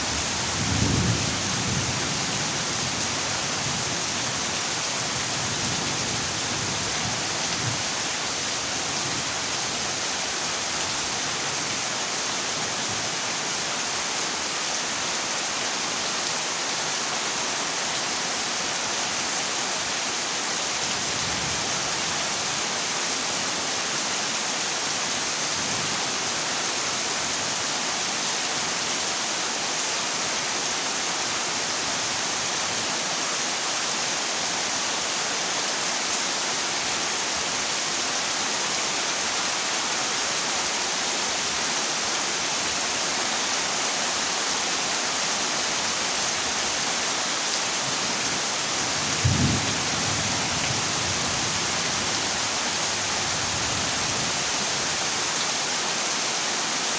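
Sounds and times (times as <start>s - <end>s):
heavy rain on a metal roof: 0.0s - 56.9s.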